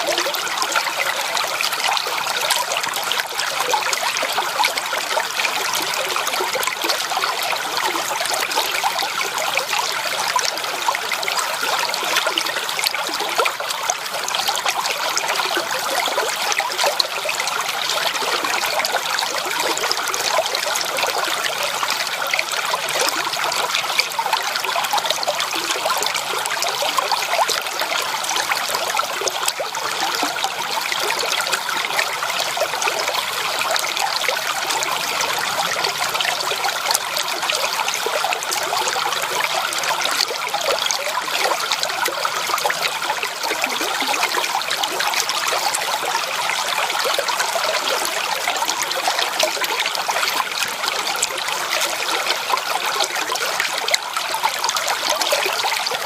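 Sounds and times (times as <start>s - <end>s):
creek water trickling: 0.0s - 56.0s.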